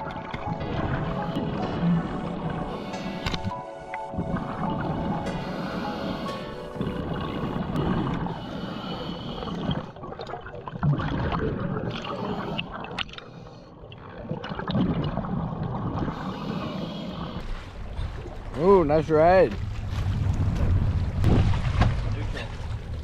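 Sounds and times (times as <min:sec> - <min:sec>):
water gurgling and sloshing: 0:00.0 - 0:23.0.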